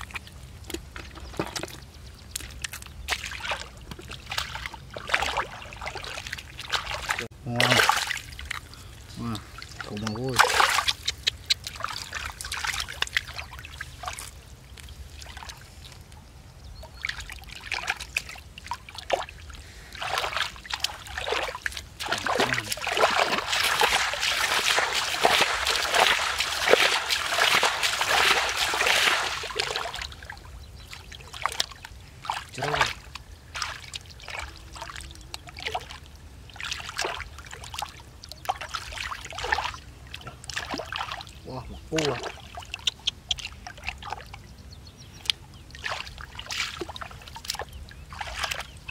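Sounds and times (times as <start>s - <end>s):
splashing through muddy water: 0.0s - 48.9s.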